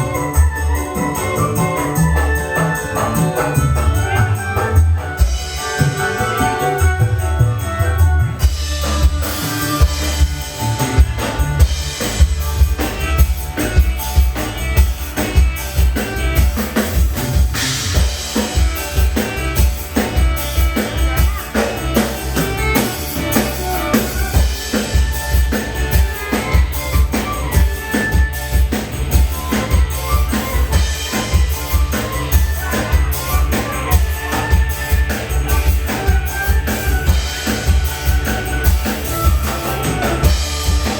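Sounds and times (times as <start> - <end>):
melodic instruments: 0.0 - 40.9.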